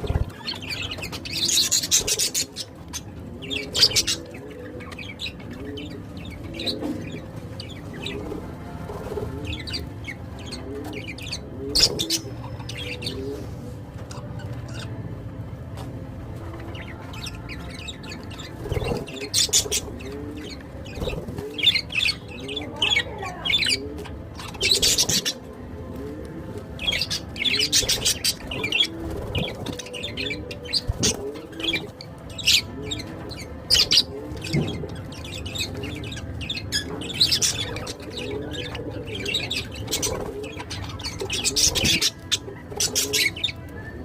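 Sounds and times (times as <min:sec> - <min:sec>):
birds chirping: 0:00.0 - 0:44.0.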